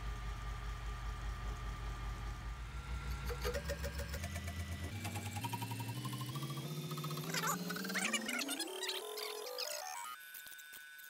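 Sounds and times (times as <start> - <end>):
milling machine humming: 0.0 - 11.0.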